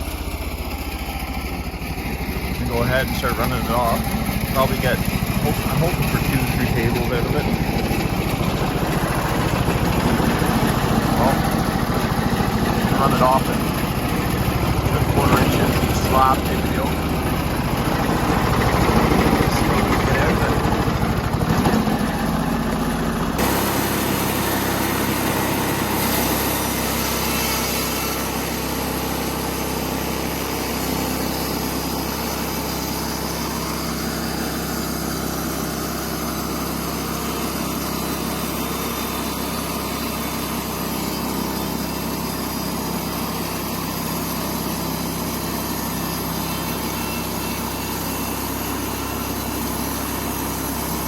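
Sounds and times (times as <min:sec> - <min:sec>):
bandsaw mill sawing log: 0:00.0 - 0:51.0.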